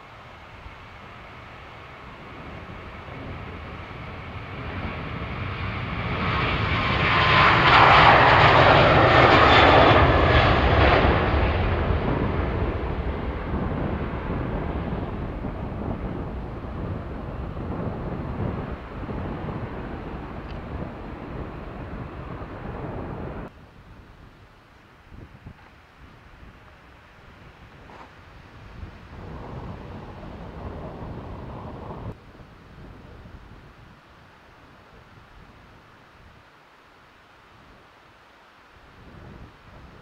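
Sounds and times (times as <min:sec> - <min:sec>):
jet engines at take-off power: 0:00.0 - 0:25.0, 0:26.1 - 0:36.0.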